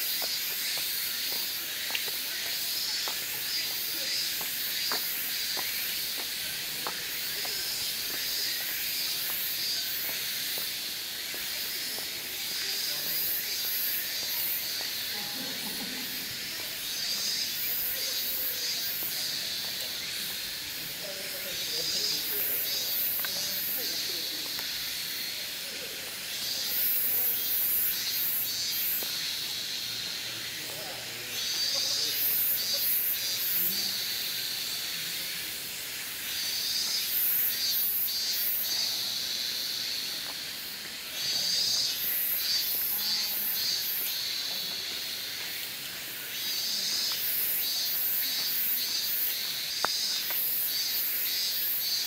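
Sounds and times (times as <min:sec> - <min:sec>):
steady high hiss: 0:00.0 - 0:52.0.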